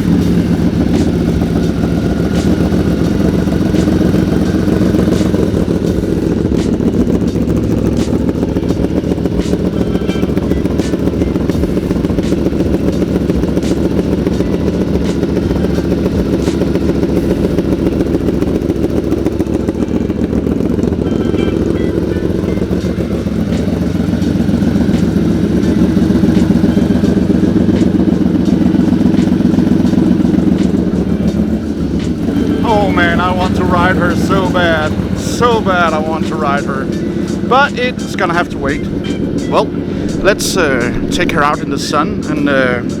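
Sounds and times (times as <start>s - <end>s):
motorcycle engine idling: 0.0s - 43.0s.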